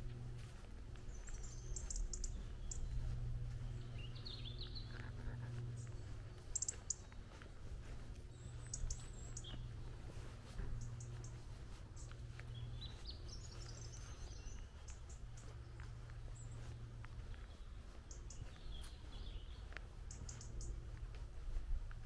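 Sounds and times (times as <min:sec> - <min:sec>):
songbirds chirping: 0:00.0 - 0:22.0
steady low rumble: 0:00.0 - 0:22.0.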